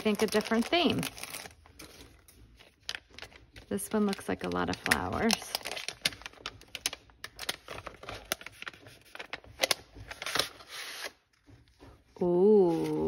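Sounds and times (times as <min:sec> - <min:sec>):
sticker packaging rustling: 0:00.0 - 0:13.0.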